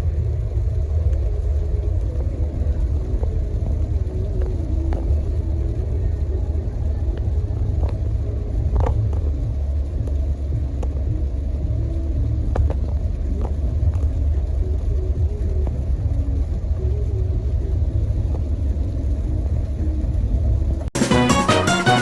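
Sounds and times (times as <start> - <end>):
faint clicks: 0.0 - 20.9
low vehicle rumble: 0.0 - 20.9.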